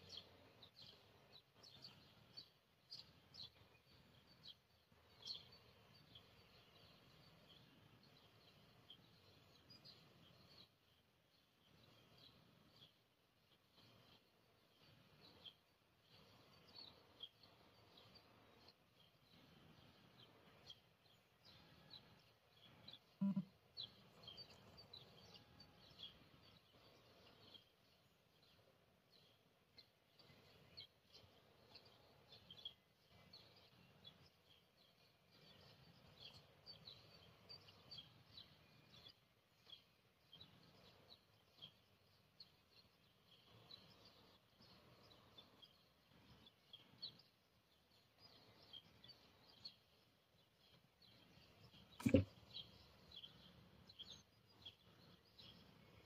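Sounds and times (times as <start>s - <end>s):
small birds chirping faintly: 0.0s - 56.0s.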